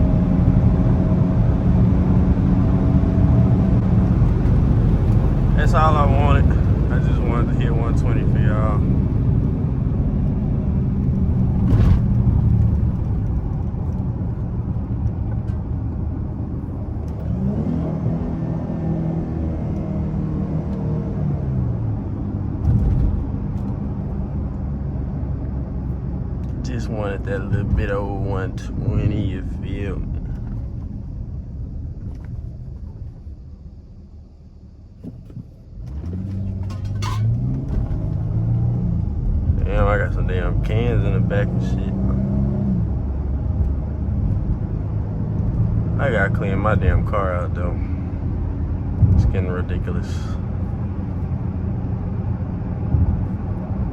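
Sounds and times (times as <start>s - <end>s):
car engine at highway speed: 0.0s - 53.9s
road noise: 0.0s - 53.9s.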